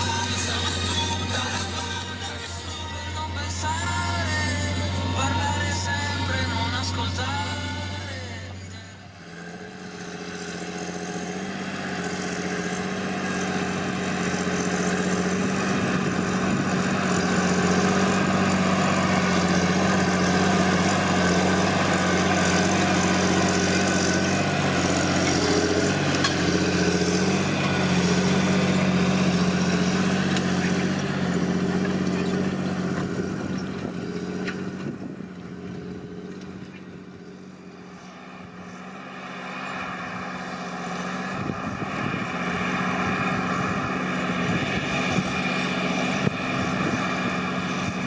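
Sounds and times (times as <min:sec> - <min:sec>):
tractor diesel engine running hard: 0:00.0 - 0:48.0.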